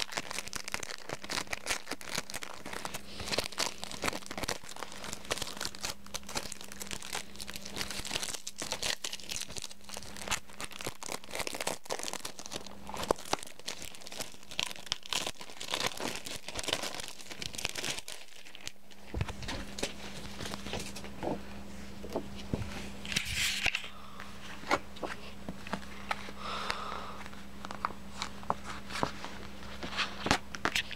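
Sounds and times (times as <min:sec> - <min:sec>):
crinkling plastic: 0:00.0 - 0:21.2, 0:23.0 - 0:30.9
steady low hum: 0:00.0 - 0:30.9.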